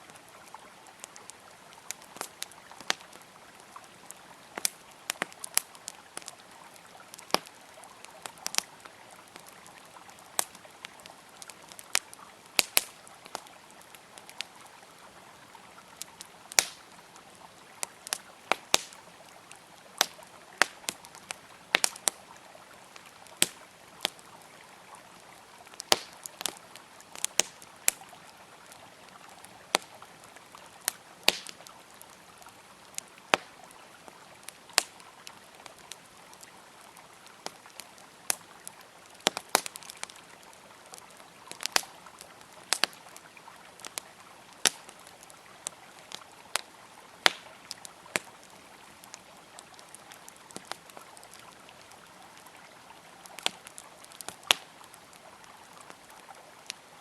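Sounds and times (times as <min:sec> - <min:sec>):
campfire crackling and popping: 0:00.0 - 0:57.0
flowing river water: 0:00.0 - 0:57.0.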